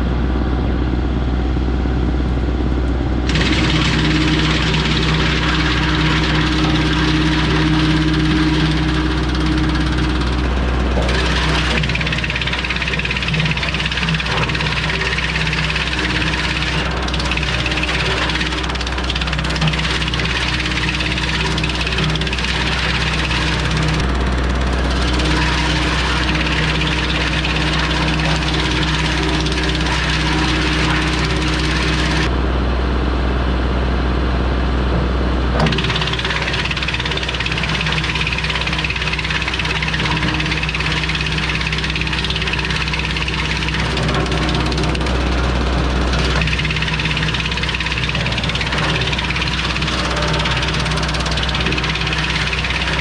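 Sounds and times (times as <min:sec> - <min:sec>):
diesel tractor engine: 0:00.0 - 0:53.0
wood chipper chipping brush: 0:03.0 - 0:32.4, 0:35.4 - 0:53.0.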